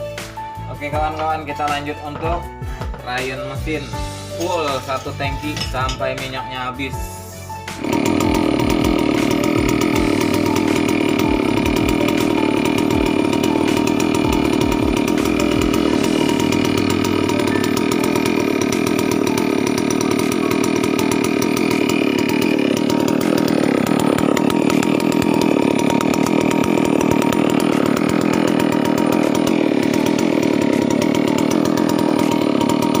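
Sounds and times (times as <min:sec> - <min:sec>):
chainsaw engine running: 0:00.0 - 0:33.0.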